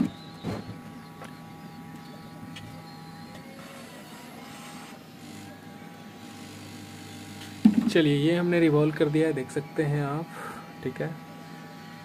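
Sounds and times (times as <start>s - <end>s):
hot air station fan hum and hiss: 0.0s - 12.0s.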